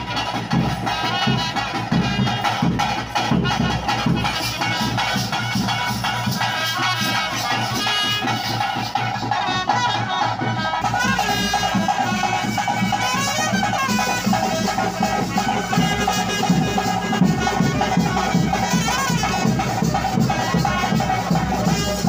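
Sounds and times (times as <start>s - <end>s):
double-reed pipe melody: 0.0s - 22.0s
drums beating: 0.0s - 22.0s.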